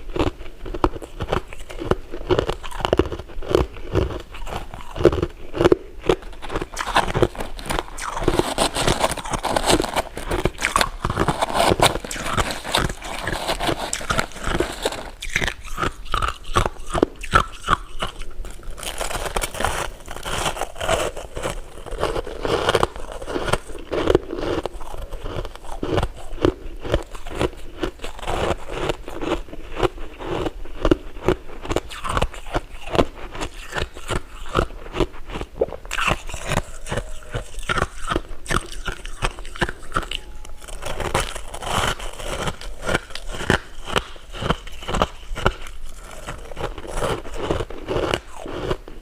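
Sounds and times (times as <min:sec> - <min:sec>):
crunching and chewing: 0:00.0 - 0:49.0.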